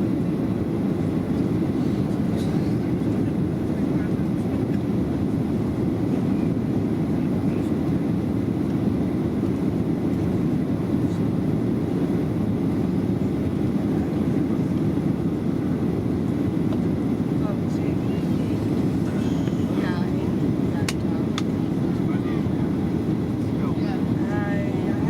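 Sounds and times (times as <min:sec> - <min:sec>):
airplane cabin rumble in flight: 0:00.0 - 0:25.0.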